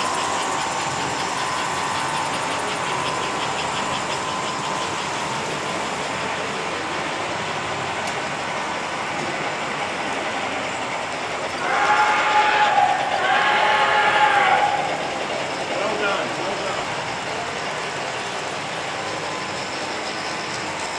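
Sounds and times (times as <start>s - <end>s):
model train motors whirring: 0.0s - 20.9s.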